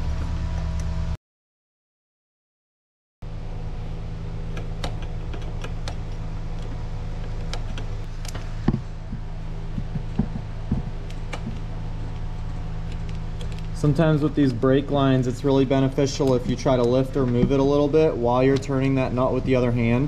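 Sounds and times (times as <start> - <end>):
steady droning hum: 3.2 - 20.0.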